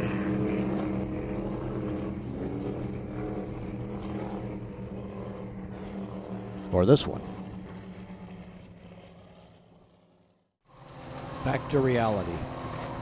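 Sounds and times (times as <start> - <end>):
motorboat engine drone: 0.0 - 13.0.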